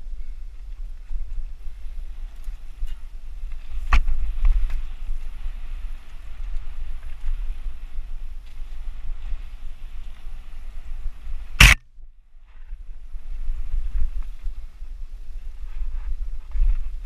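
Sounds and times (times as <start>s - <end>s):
bike rumbling and rattling: 0.0s - 17.0s
wind buffeting microphone: 0.0s - 17.0s.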